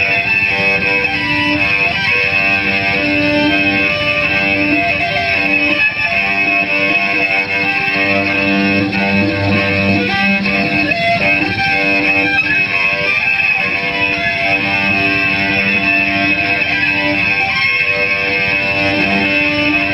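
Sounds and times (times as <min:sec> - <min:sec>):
bowed cello sustained tones: 0:00.0 - 0:19.9
high feedback ringing: 0:00.0 - 0:19.9.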